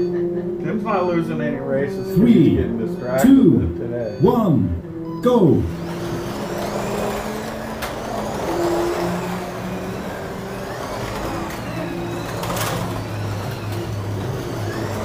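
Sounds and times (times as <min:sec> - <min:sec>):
slot car motors whining: 0:00.0 - 0:15.0.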